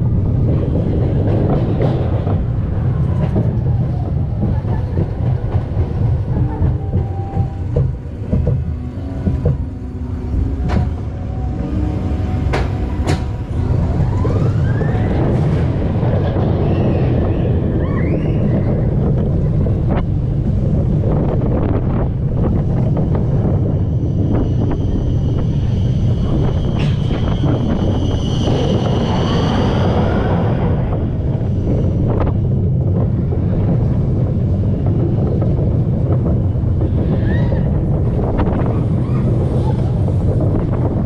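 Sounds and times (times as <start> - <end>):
roller coaster wheels rumbling: 0.0 - 41.0
wind rushing over microphone: 0.0 - 41.0.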